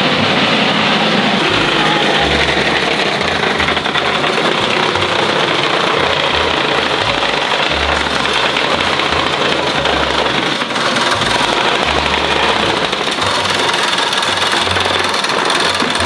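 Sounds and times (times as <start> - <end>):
plate compactor clattering on paving: 1.3 - 16.0.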